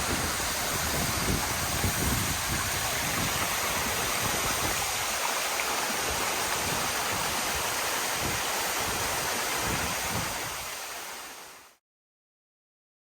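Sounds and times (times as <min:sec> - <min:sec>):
waterfall roaring: 0:00.0 - 0:11.7.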